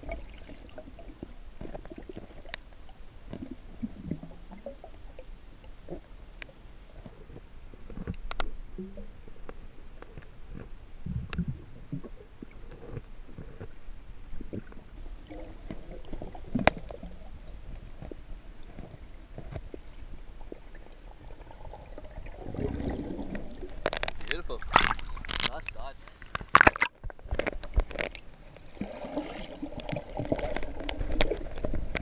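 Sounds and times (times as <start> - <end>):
underwater rumbling water: 0.0 - 32.0.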